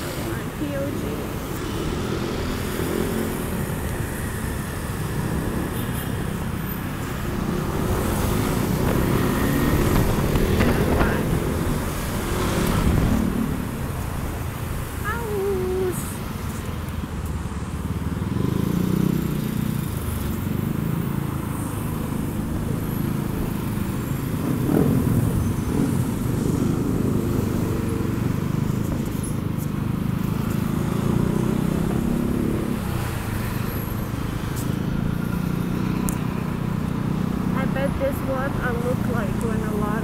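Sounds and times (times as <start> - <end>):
motorcycle engines in traffic: 0.0 - 40.0.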